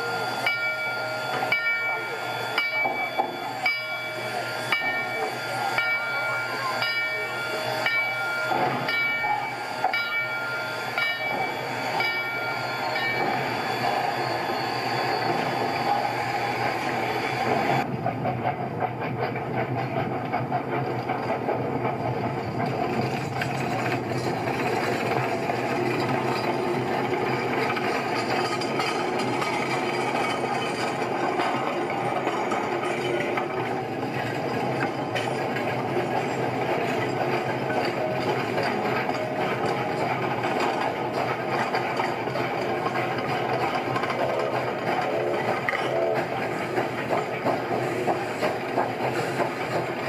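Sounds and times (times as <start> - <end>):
train rumbling: 0.0 - 50.0.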